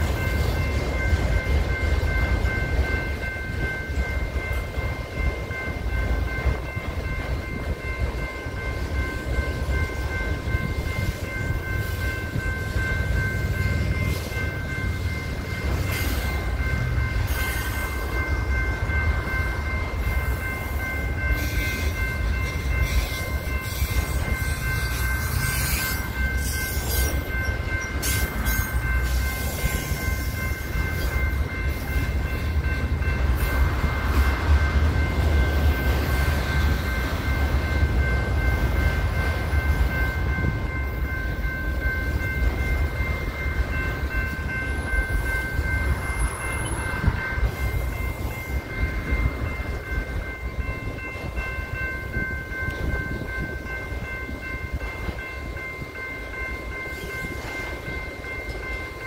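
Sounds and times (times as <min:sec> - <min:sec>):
crossing warning bell ringing: 0:00.0 - 0:59.0
train wheels rumbling on rail: 0:00.0 - 0:59.0.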